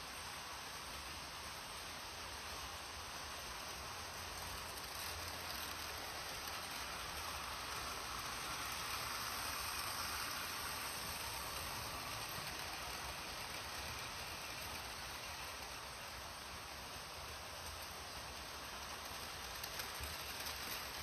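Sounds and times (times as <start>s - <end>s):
model train wheels rumbling on rails: 0.0s - 21.0s.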